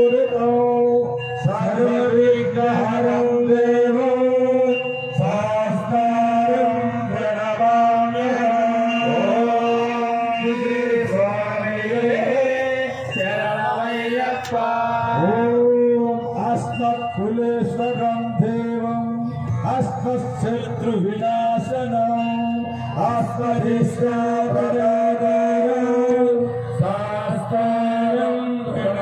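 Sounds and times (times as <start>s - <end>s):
men chanting over a pa: 0.0s - 29.0s
steady held tones: 0.0s - 29.0s.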